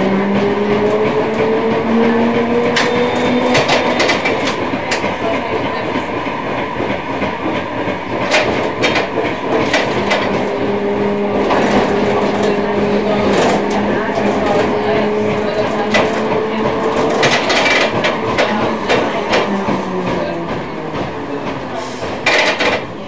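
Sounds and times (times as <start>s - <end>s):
tram rumble: 0.0s - 23.0s
wheels clacking over rail joints: 0.0s - 23.0s.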